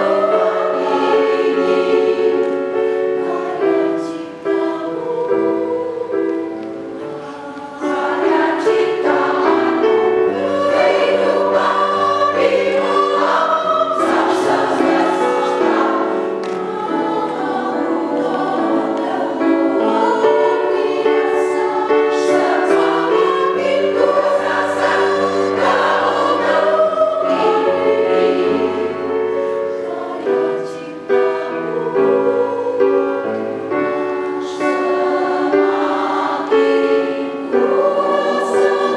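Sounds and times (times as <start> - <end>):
women's choir singing: 0.0 - 38.9.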